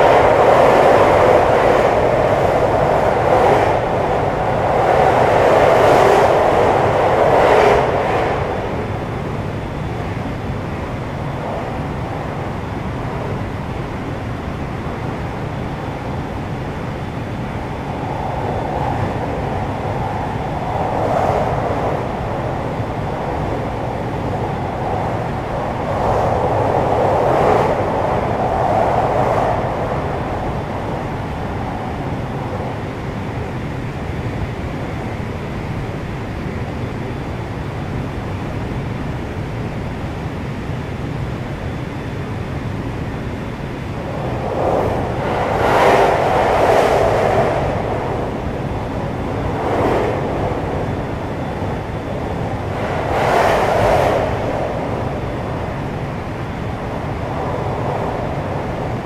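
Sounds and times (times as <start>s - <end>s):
train wheels rumbling on rail: 0.0s - 36.6s, 41.4s - 59.0s.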